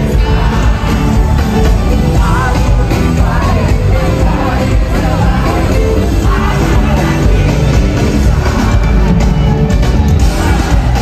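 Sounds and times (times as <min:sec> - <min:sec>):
live gospel band music: 0:00.0 - 0:11.0
people singing: 0:00.0 - 0:11.0.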